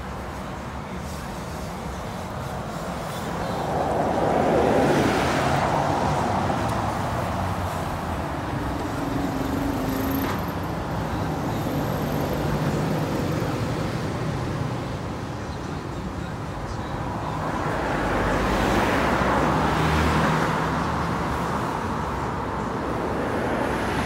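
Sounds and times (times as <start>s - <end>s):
diesel engines of lorry and bus: 0.0s - 24.0s
steady traffic drone: 0.0s - 24.0s.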